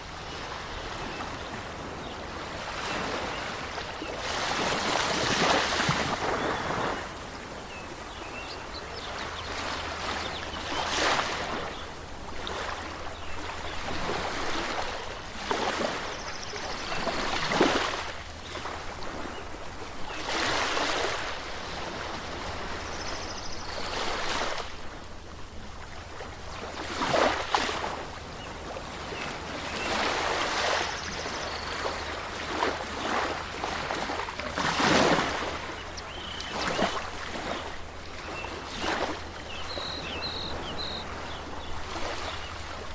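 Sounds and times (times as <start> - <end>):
small waves washing in: 0.0 - 42.9.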